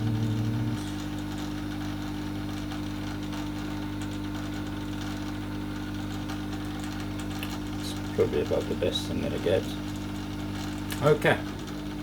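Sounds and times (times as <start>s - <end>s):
heater fan hum: 0.0s - 12.0s.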